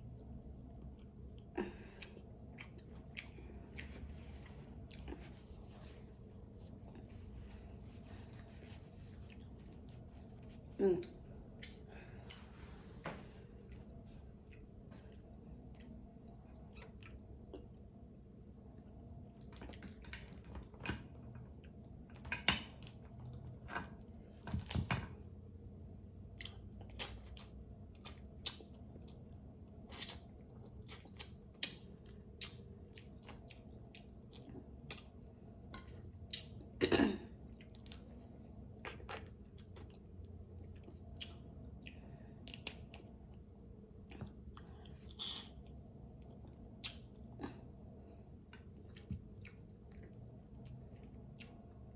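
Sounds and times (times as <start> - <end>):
chewing and wet mouth sounds: 0.0 - 12.6, 13.6 - 24.7, 26.0 - 51.9.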